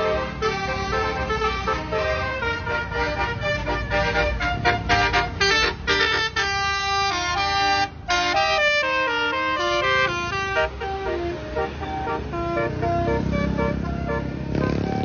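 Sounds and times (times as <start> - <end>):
bus engine rumble: 0.0 - 15.0
tuned bus horns playing melody: 0.0 - 15.0.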